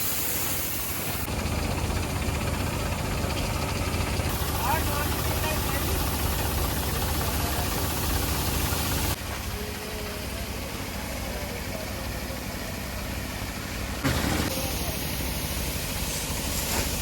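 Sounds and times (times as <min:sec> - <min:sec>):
tractor diesel engine running: 0:00.2 - 0:17.0.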